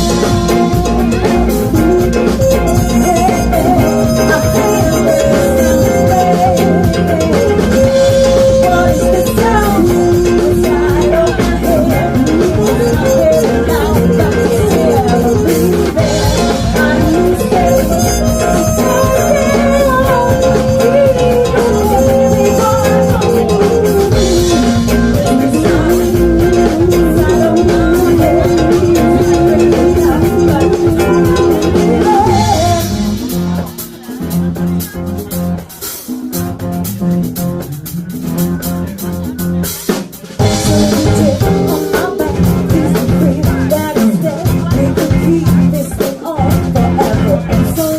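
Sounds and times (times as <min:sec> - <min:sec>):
loud music with sliding melody: 0:00.0 - 0:47.9.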